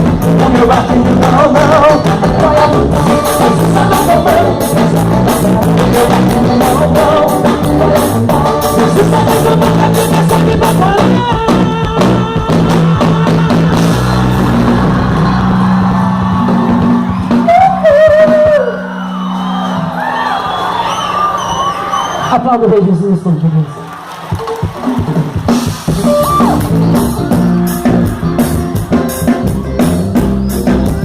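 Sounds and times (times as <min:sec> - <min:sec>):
band playing with drums and bass: 0:00.0 - 0:22.9, 0:23.9 - 0:31.0.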